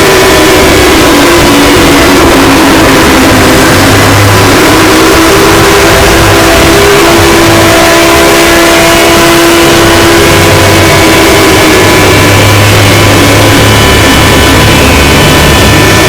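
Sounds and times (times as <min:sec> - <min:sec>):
loud distorted noise: 0:00.0 - 0:16.0
steady held alarm tones: 0:00.0 - 0:16.0.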